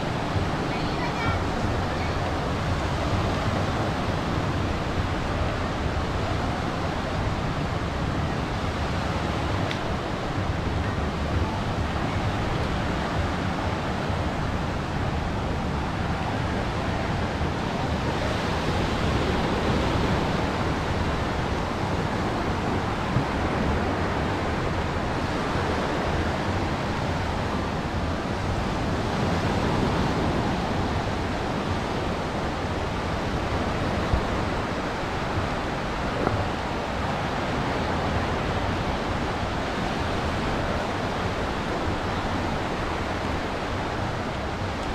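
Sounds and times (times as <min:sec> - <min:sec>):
ocean waves breaking on beach: 0:00.0 - 0:44.9
wind rumble on microphone: 0:00.0 - 0:44.9.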